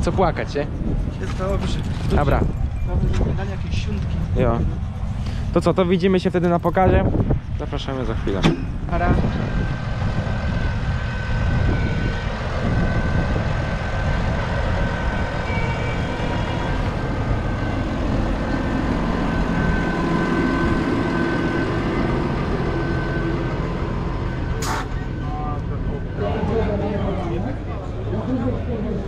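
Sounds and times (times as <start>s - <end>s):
high whine: 0.0s - 29.0s
tractor diesel engine running: 0.0s - 29.0s.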